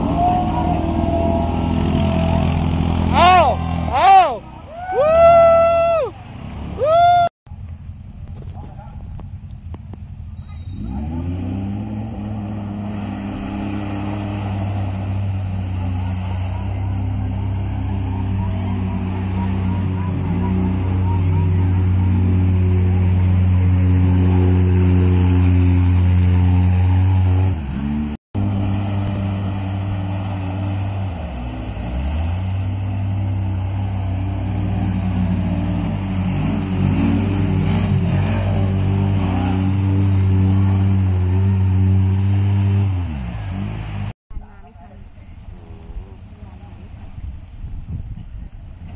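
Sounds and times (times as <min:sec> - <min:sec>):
racing vehicle engine running hard: 0:00.0 - 0:48.9.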